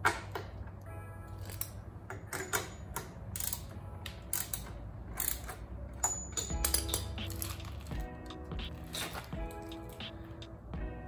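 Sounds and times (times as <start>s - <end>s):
metal clicks and creaks: 0.0s - 10.1s.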